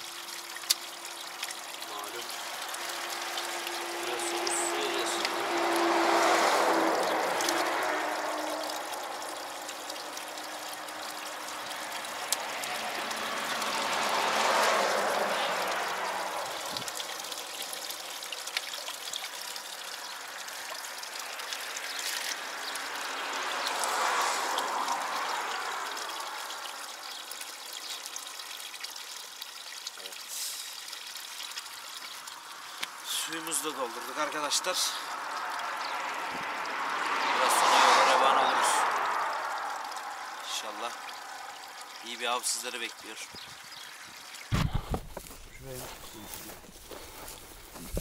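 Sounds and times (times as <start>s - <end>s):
water running from a tap: 0.0s - 44.5s.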